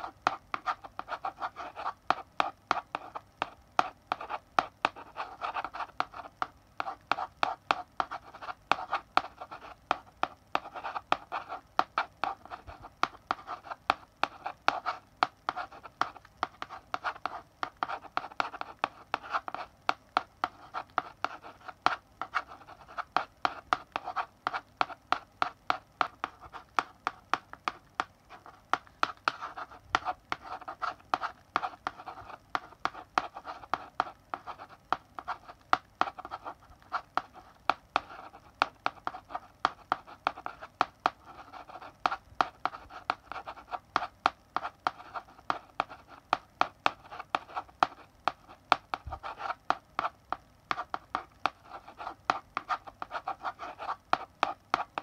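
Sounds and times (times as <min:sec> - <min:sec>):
chalk writing on a blackboard: 0:00.0 - 0:55.0.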